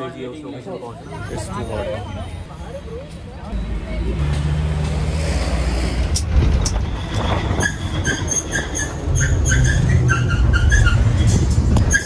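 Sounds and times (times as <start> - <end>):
bus engine rumble with rattling: 0.8 - 12.0.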